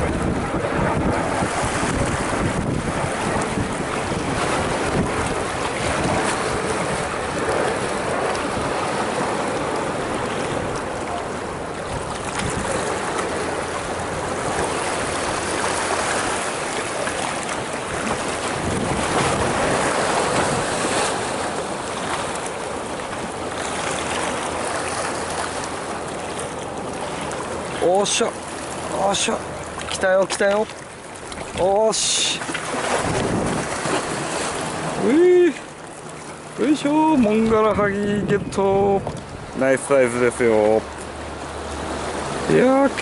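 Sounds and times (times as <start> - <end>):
waves splashing against rocks: 0.0 - 43.0
wind buffeting microphone: 0.0 - 43.0.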